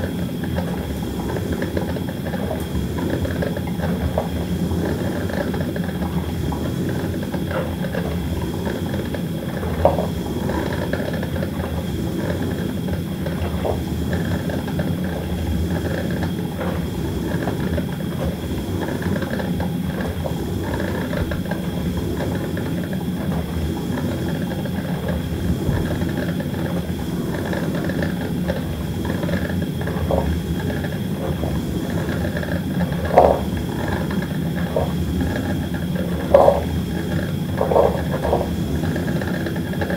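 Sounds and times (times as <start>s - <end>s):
coffee maker bubbling hiss: 0.0s - 39.9s.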